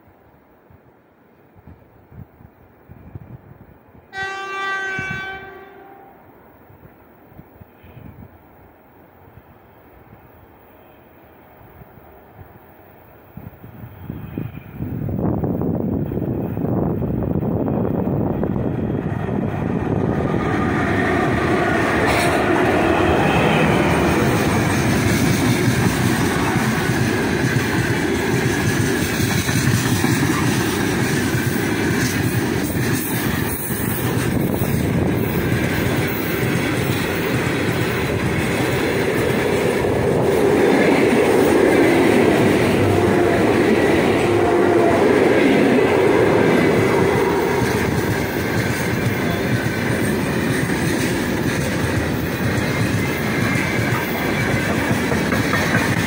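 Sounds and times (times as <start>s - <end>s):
electric train approaching: 0.0s - 56.0s
freight train passing: 0.0s - 56.0s.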